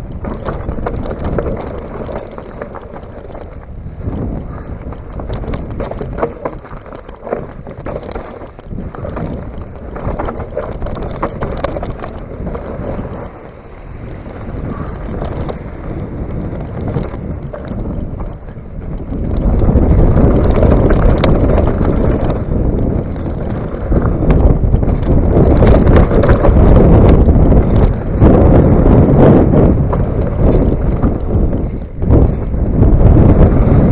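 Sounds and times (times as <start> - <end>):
bike tyres rattling over stones: 0.0 - 33.9
wind buffeting microphone: 0.0 - 33.9.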